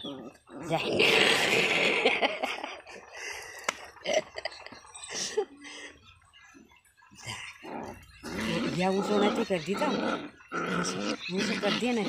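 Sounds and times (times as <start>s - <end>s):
small dogs growling: 0.0s - 4.3s, 6.4s - 12.0s.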